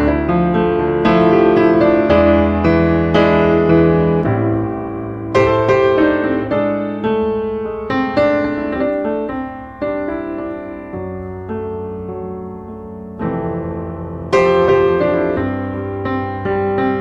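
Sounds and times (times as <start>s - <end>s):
piano notes and chords: 0.0s - 17.0s.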